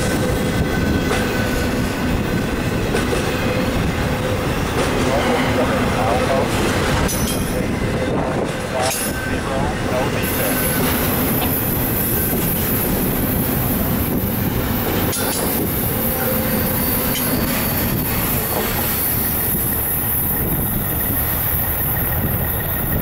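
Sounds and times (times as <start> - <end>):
freight train rumble and clatter: 0.0 - 23.0.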